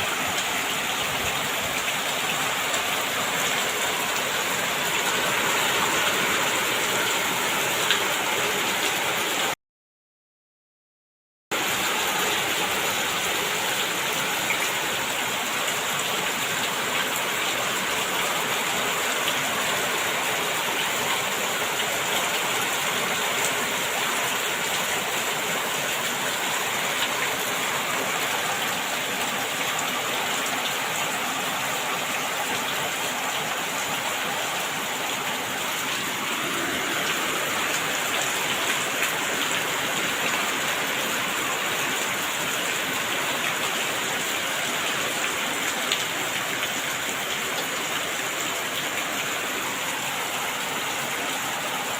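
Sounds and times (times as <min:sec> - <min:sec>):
heavy rain falling: 0:00.0 - 0:09.6, 0:11.5 - 0:51.9.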